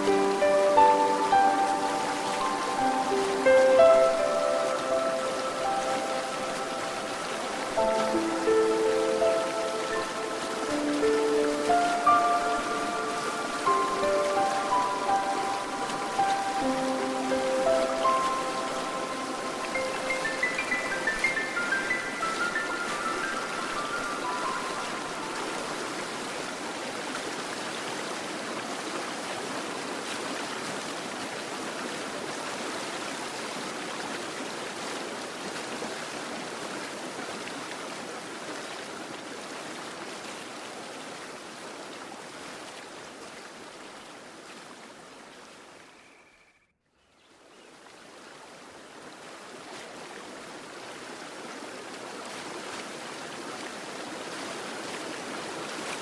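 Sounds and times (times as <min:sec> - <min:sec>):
stream flowing: 0:00.0 - 0:46.4, 0:47.2 - 0:56.0.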